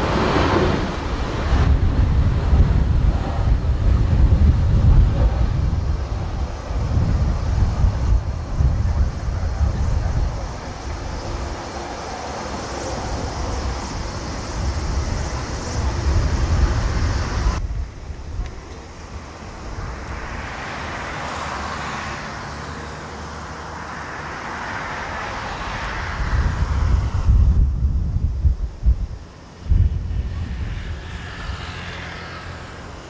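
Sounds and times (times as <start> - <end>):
wind buffeting microphone: 0.0 - 21.6, 25.2 - 33.0
jet aircraft approaching: 0.0 - 33.0
jet engines rumbling: 0.0 - 33.0.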